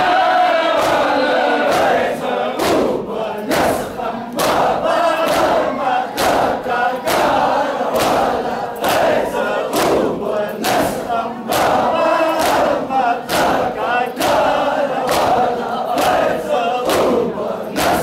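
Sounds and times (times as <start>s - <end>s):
crowd of men chanting: 0.0s - 18.0s
chest slaps in unison: 0.8s - 18.0s.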